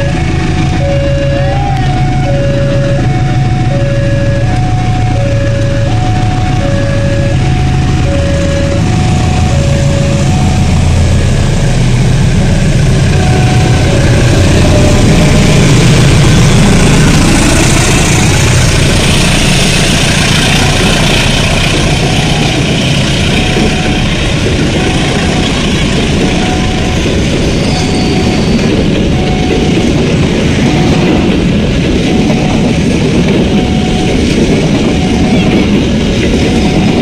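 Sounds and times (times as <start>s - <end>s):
level crossing alarm two tones: 0.0s - 11.4s, 12.4s - 21.0s, 21.8s - 37.0s
diesel locomotive engine rumble: 0.0s - 37.0s
train wheels on rails: 0.0s - 37.0s.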